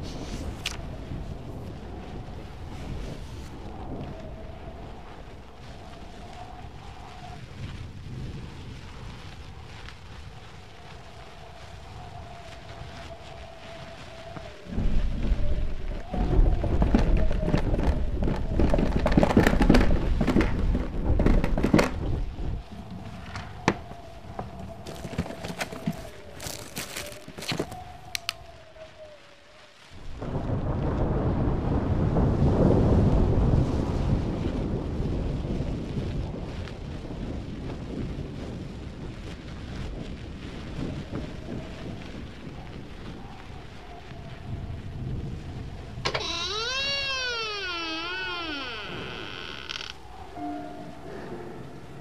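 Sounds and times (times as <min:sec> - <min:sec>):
low storm wind: 0:00.0 - 0:52.0
rain: 0:00.0 - 0:52.0
sharp crackles: 0:00.0 - 0:52.0
thunder rumbling: 0:00.0 - 0:52.0.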